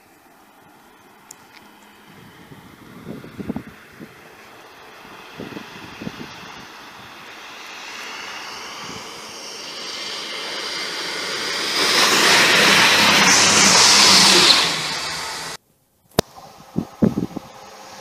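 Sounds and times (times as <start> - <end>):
diesel train passing at speed: 0.0 - 15.6, 16.3 - 18.0.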